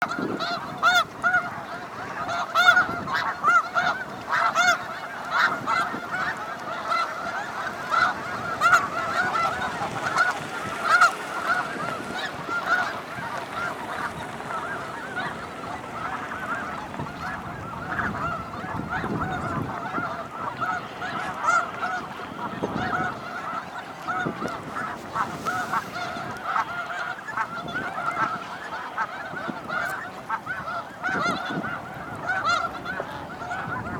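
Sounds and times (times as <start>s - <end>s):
flock of cranes calling: 0.0s - 33.9s.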